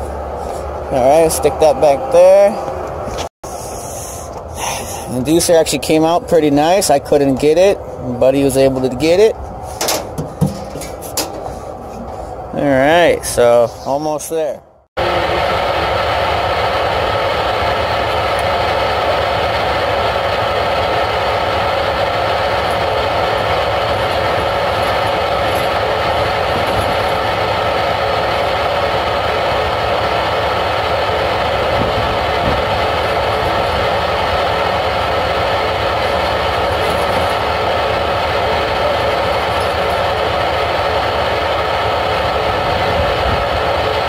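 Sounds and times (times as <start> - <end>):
loud machinery droning: 0.0 - 13.6, 15.0 - 44.0.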